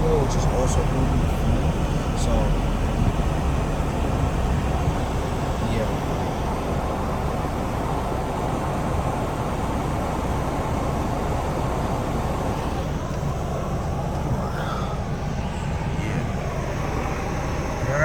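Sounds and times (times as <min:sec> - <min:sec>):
car cabin road and engine rumble: 0:00.0 - 0:18.0.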